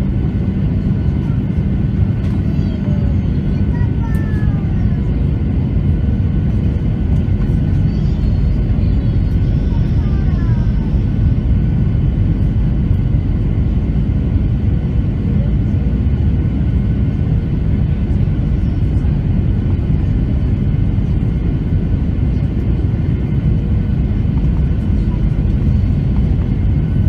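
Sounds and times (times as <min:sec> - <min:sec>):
aircraft cabin engine rumble: 0:00.0 - 0:27.0.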